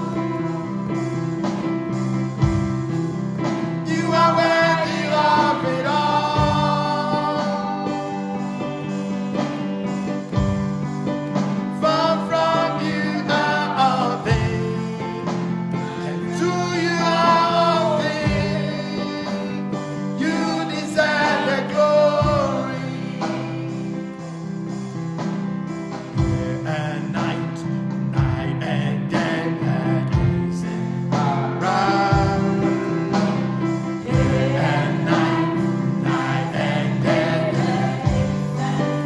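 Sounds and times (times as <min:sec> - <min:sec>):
wordless sung melody: 0:00.0 - 0:39.0.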